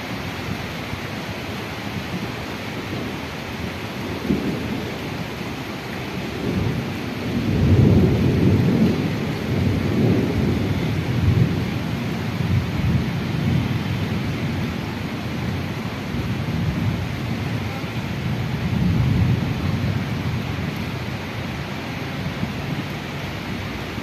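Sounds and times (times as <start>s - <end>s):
rain hiss: 0.0s - 24.0s
thunder rumbling: 1.9s - 24.0s.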